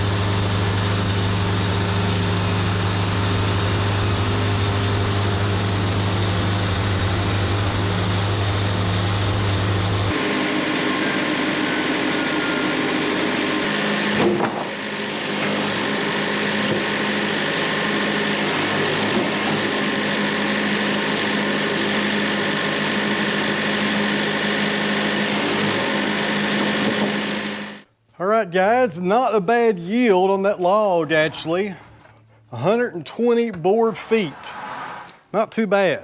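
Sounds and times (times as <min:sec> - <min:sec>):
band sawmill cutting log: 0:00.0 - 0:27.8, 0:29.9 - 0:35.4.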